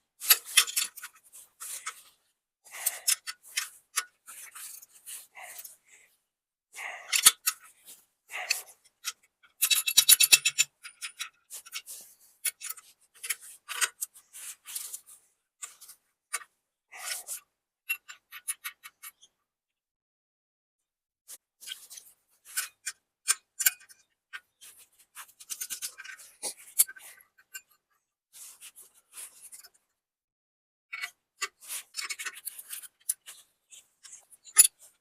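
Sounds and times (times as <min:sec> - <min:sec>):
metal clicks and scrapes of hand tools: 0:00.2 - 0:05.8, 0:07.1 - 0:19.3, 0:21.6 - 0:29.8, 0:31.0 - 0:35.0.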